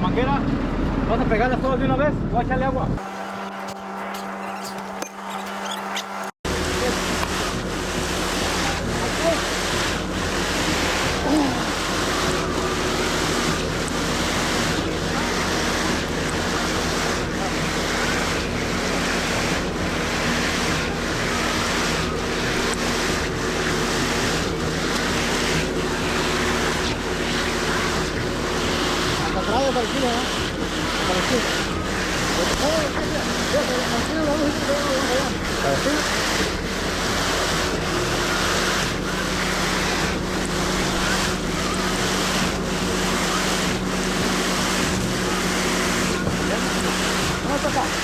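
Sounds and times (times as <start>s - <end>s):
diesel engine drone: 0.0s - 48.0s
concrete pump rushing noise: 3.0s - 48.0s.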